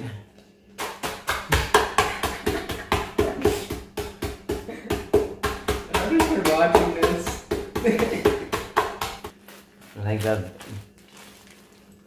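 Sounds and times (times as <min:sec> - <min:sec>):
bowl pounding cookies in plastic bag: 0:00.8 - 0:12.0.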